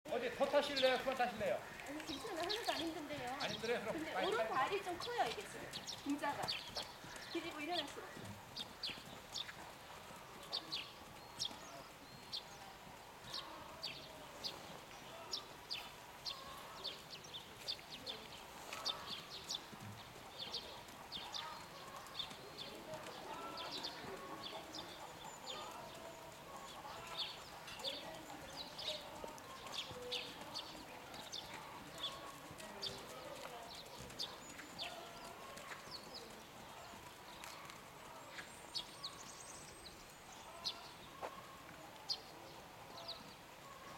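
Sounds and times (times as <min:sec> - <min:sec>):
horse walking on sand: 0:00.1 - 0:43.9.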